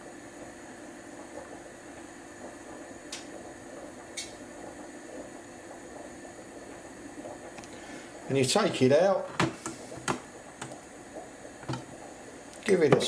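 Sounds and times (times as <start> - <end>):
coffee machine hum and hiss: 0.0 - 13.0.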